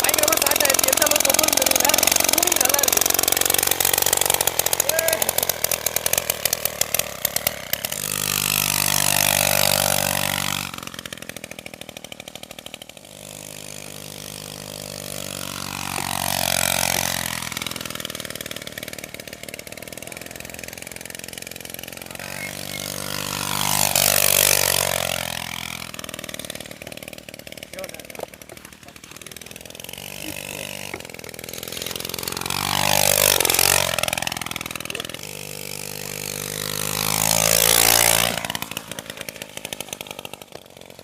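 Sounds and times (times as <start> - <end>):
moped engine revving: 0.0 - 41.0.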